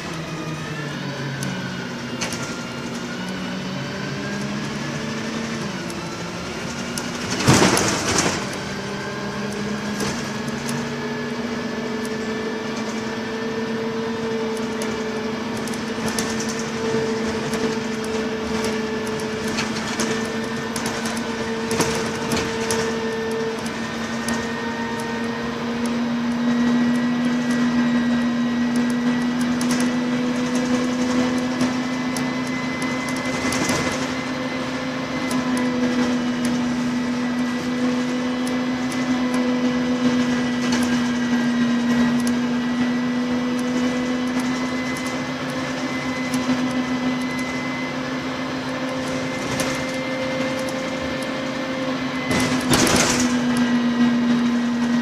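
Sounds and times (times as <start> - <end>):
bus engine humming: 0.0 - 55.0.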